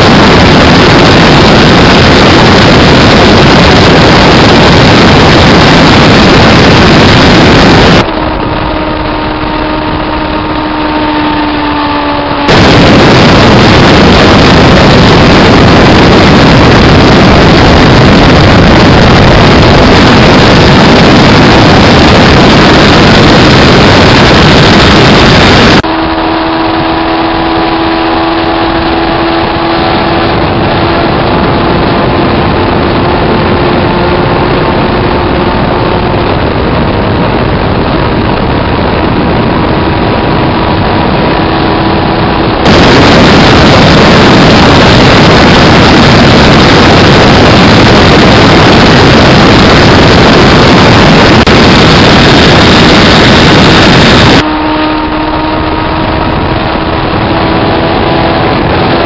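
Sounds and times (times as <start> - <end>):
harsh distorted engine rush: 0.0 - 59.0
motorcycle engine running: 0.0 - 59.0.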